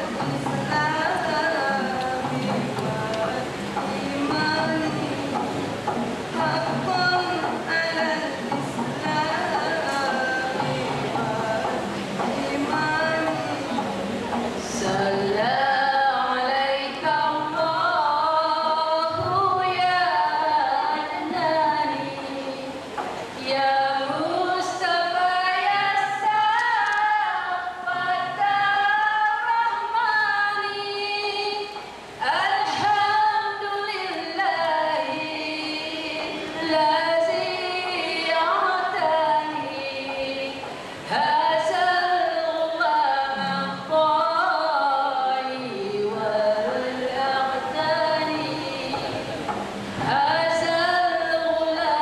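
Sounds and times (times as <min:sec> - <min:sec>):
woman singing into microphone: 0:00.0 - 0:52.0.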